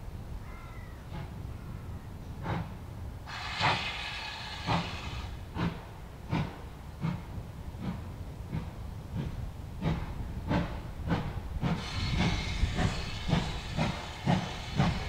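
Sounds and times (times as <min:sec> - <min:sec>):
steam locomotive exhaust beats: 0:00.0 - 0:15.0
steam hissing: 0:02.4 - 0:15.0.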